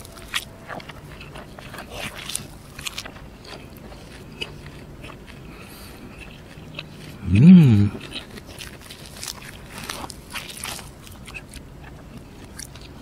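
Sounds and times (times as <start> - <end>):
person chewing flaky bread: 0.0 - 13.0.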